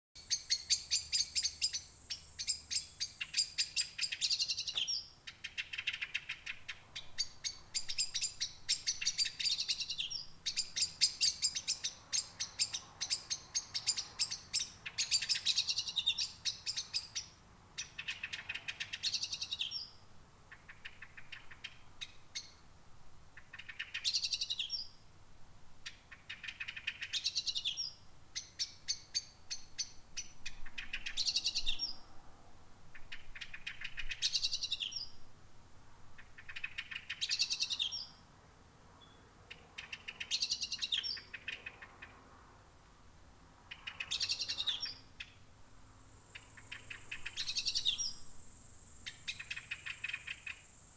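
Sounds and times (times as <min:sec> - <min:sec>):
songbird singing: 0:00.2 - 0:22.7, 0:23.3 - 0:25.1, 0:25.8 - 0:32.3, 0:32.9 - 0:35.3, 0:36.1 - 0:38.3, 0:38.9 - 0:42.3, 0:43.6 - 0:50.9.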